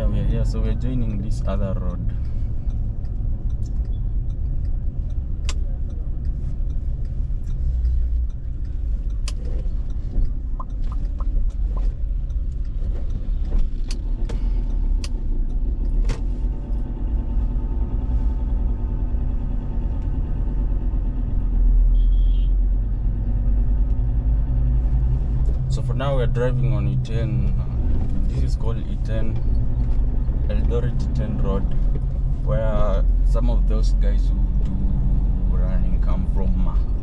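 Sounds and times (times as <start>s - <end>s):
car engine and road rumble: 0.0s - 37.0s
engine hum: 0.0s - 37.0s.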